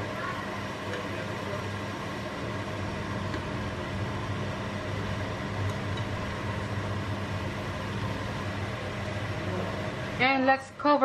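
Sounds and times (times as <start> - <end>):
electric hum: 0.0 - 11.0
vegetables sizzling in a frying pan: 0.0 - 11.0.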